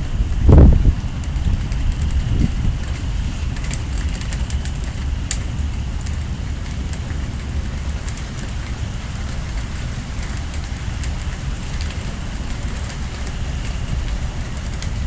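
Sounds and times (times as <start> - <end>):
rain: 0.0 - 15.0
wind buffeting microphone: 0.0 - 15.0.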